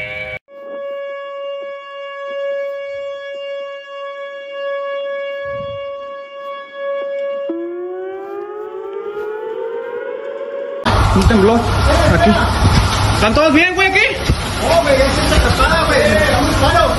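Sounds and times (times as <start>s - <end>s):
tornado warning siren: 0.5s - 16.9s.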